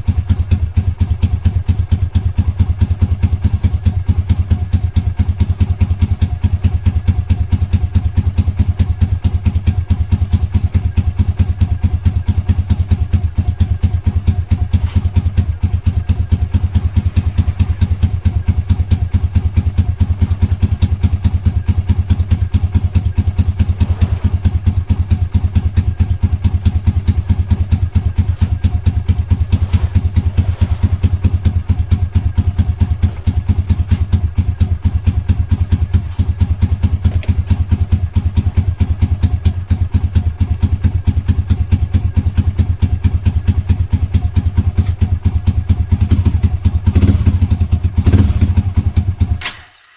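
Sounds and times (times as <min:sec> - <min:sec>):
motorcycle engine idling: 0:00.0 - 0:49.4.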